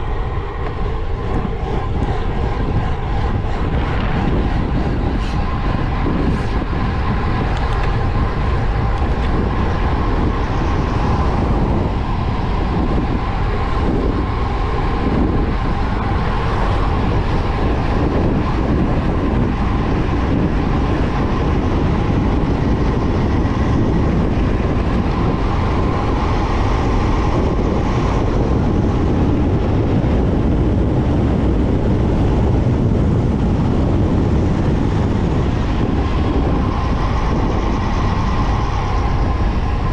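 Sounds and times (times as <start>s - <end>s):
tyres humming on asphalt: 0.0s - 39.9s
wind rushing over microphone: 0.0s - 39.9s.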